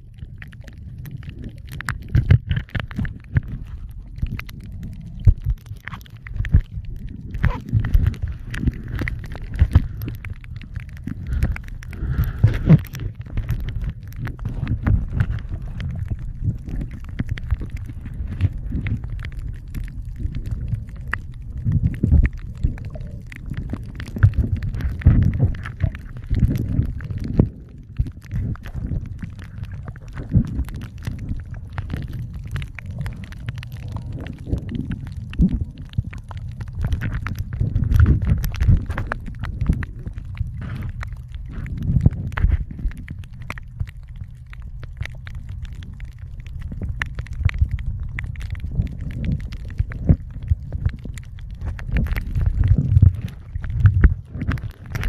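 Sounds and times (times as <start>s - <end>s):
sharp clicks and crackles: 0.0s - 55.0s
underwater rumble of moving water: 0.0s - 55.0s.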